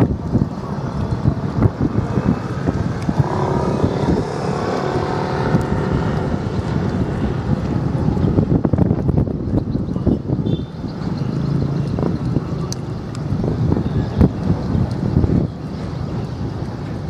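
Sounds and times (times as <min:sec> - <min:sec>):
boat engine rumbling: 0:00.0 - 0:17.0
wind buffeting microphone: 0:00.0 - 0:17.0.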